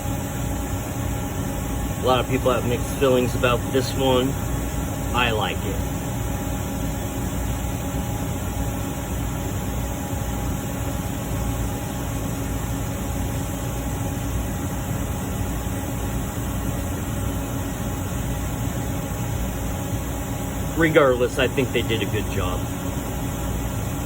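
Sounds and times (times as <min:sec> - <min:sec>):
background hum and hiss: 0:00.0 - 0:24.0
faint constant tones: 0:00.0 - 0:24.0.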